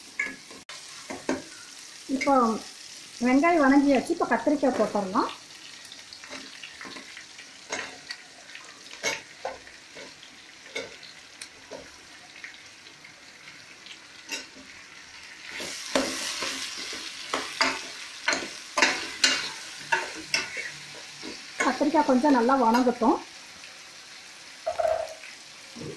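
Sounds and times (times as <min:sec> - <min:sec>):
oil sizzling: 0:00.0 - 0:25.9.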